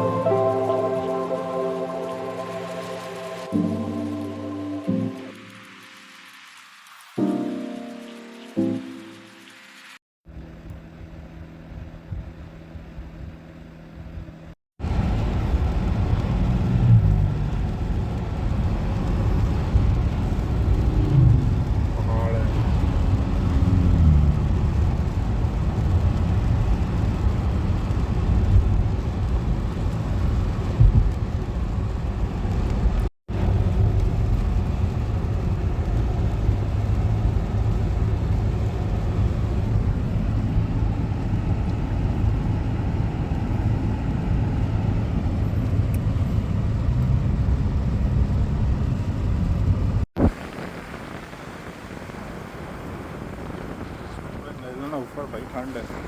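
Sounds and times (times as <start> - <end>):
road and engine noise in car: 9.5 - 56.0.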